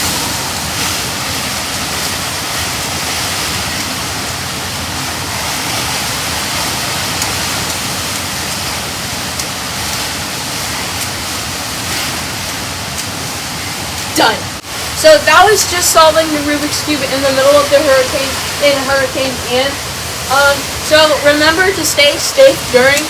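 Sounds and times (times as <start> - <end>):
storm wind and rain rushing: 0.0 - 23.0.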